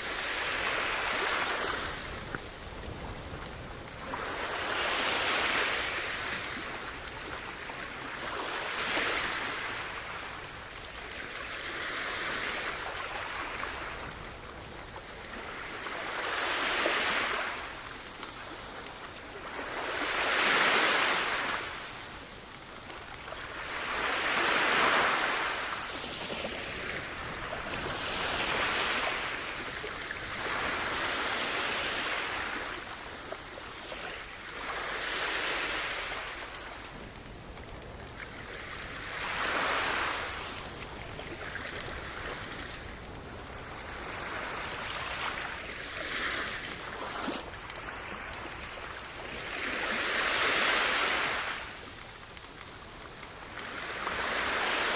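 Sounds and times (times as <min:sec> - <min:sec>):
sea waves washing onto shore: 0:00.0 - 0:54.9.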